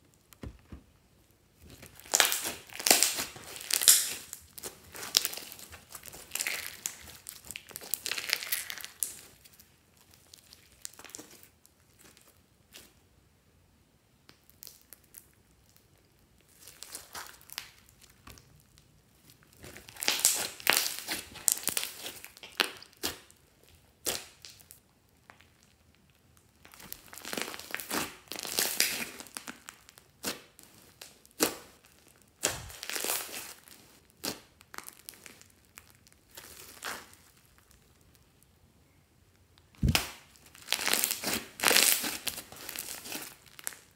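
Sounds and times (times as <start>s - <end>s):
slime squished with crackly pops: 1.6s - 13.0s, 14.1s - 38.5s, 39.4s - 43.9s.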